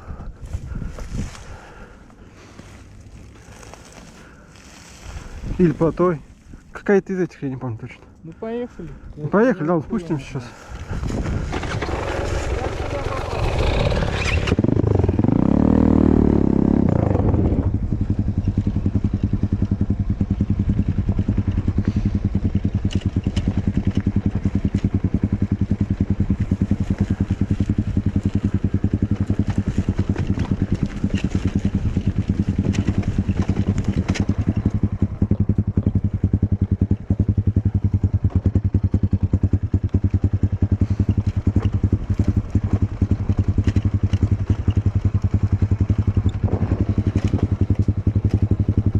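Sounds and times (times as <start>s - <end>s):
motorcycle engine running: 0.0s - 6.6s, 8.4s - 48.9s.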